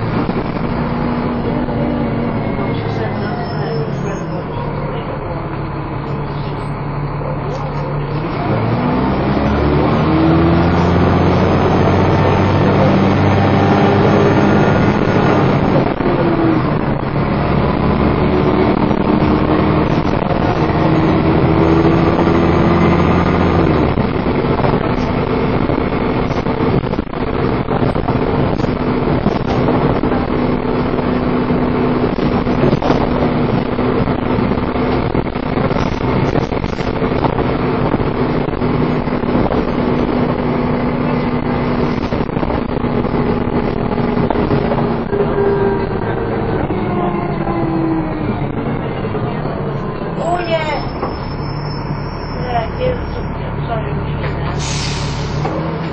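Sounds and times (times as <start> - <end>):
bus engine accelerating: 0.0 - 55.9.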